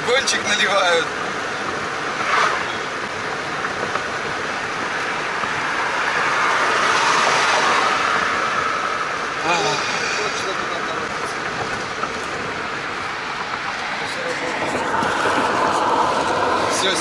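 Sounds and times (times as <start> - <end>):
road noise inside car: 0.0 - 17.0.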